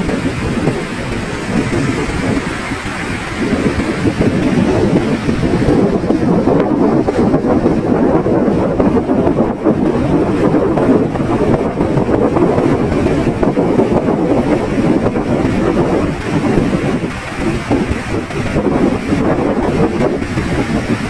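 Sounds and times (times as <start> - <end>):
sea waves washing on beach: 0.0 - 21.0
wind buffeting microphone: 0.0 - 21.0.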